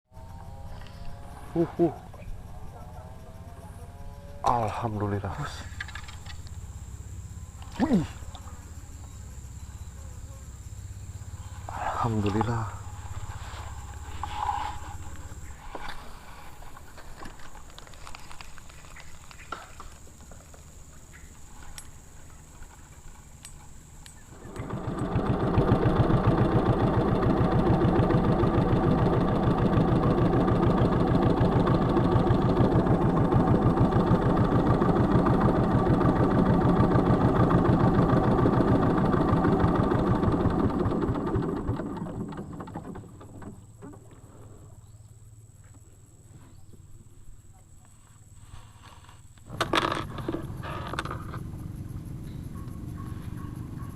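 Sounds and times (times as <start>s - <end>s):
small engine running: 0.1s - 44.6s, 49.5s - 53.9s.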